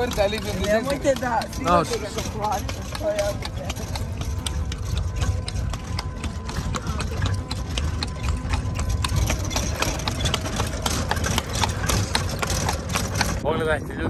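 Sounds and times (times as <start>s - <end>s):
horse hooves clip-clopping on asphalt: 0.0s - 13.7s
carriage low rumble: 0.0s - 14.0s.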